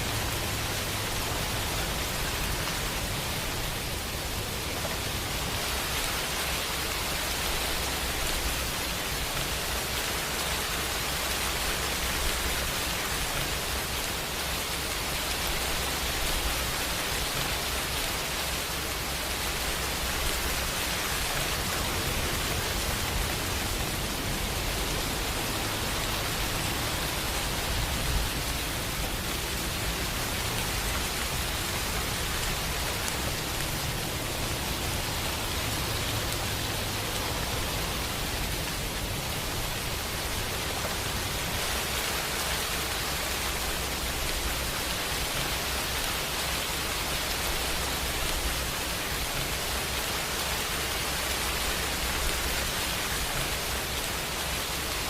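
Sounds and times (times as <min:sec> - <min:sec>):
steady rain on a surface: 0:00.0 - 0:55.0.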